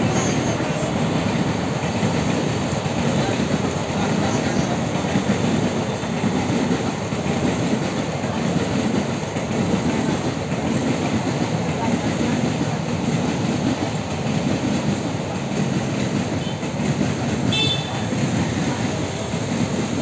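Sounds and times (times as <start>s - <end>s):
train wheels running on rails: 0.0s - 20.0s.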